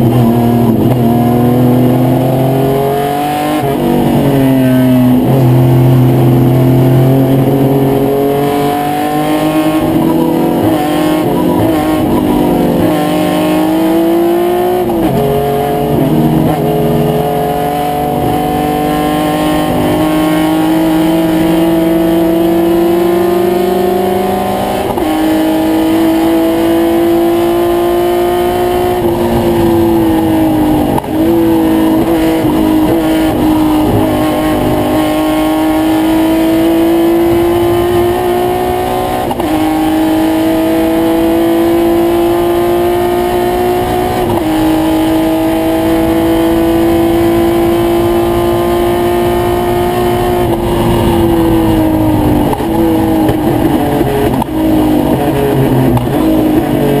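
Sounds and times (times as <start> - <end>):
race car engine under load: 0.0 - 57.0.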